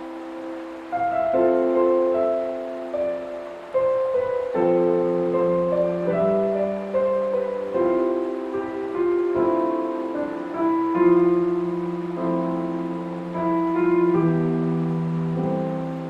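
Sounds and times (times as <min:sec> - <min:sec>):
faint water sound: 0:00.0 - 0:16.0
gentle solo piano: 0:00.0 - 0:16.0.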